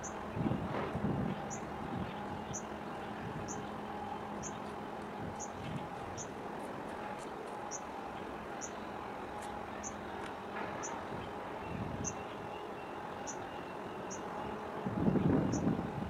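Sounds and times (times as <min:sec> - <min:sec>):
faint steady hum: 0:00.0 - 0:16.0
low rumble of engines and machinery: 0:00.0 - 0:16.0.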